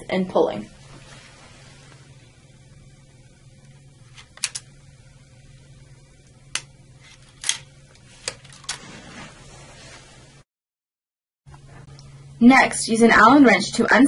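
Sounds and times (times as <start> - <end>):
faint steady hum: 0.0 - 10.4, 11.5 - 14.0.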